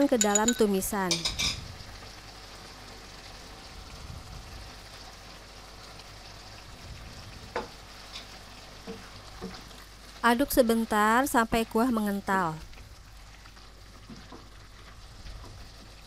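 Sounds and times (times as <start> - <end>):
broth simmering in a wok: 0.7 - 16.0.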